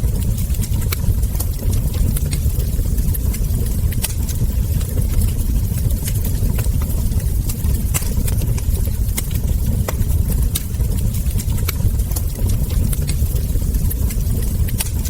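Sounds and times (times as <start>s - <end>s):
burning logs popping: 0.0s - 15.0s
low fire rumble: 0.0s - 15.0s.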